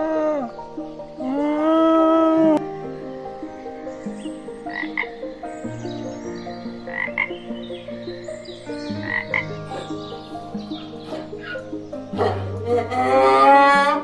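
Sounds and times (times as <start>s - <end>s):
background music with chords: 0.0s - 14.0s
animal calling: 2.6s - 14.0s.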